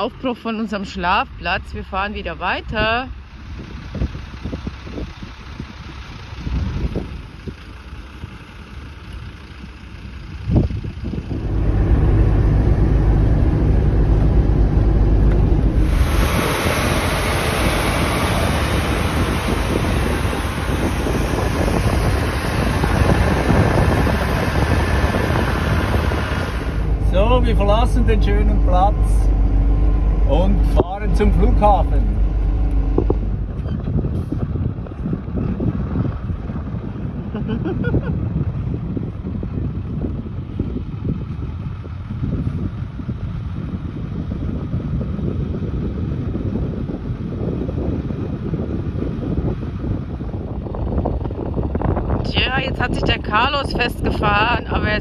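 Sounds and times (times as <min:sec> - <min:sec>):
truck engine driving past: 0:00.0 - 0:55.0
wind buffeting microphone: 0:00.0 - 0:55.0.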